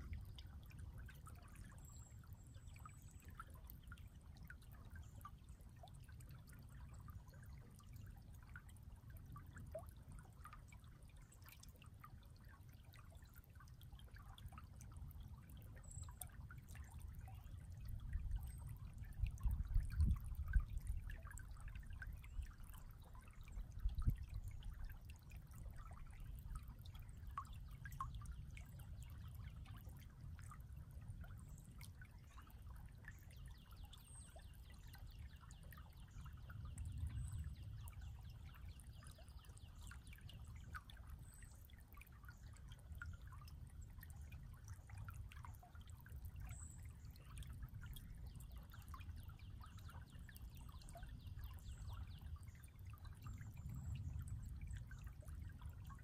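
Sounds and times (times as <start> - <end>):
creek babbling over stones: 0.0 - 56.0.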